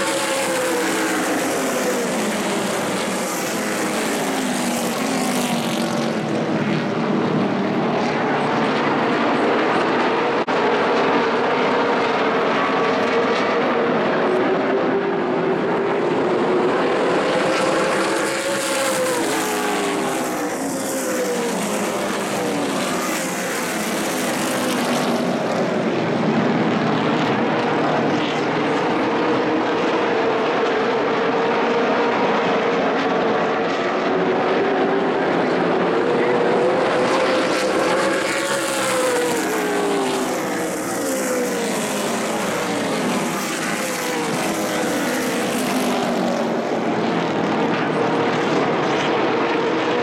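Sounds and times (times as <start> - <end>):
race car engines passing: 0.0 - 50.0.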